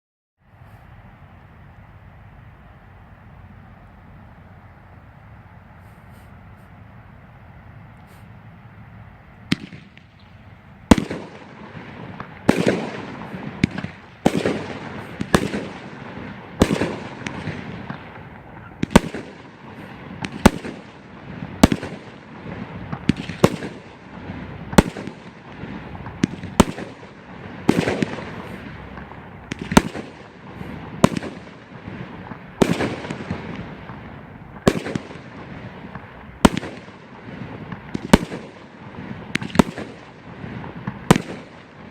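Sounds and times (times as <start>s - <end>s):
fireworks bangs with hiss: 5.8s - 6.8s, 8.0s - 8.4s, 9.5s - 41.9s.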